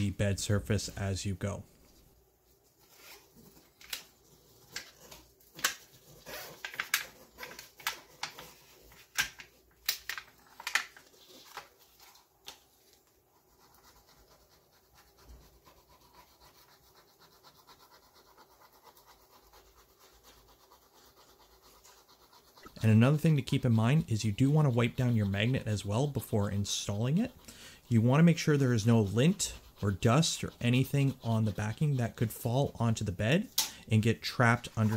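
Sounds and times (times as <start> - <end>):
putty knife rubbing and scraping: 2.7 - 12.2, 12.8 - 34.9.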